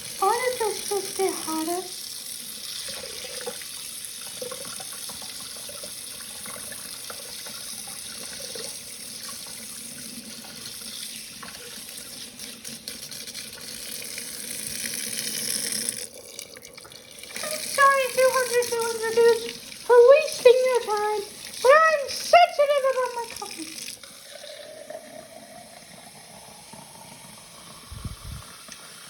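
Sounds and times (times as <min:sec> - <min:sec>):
sink tap running: 0:00.0 - 0:29.0.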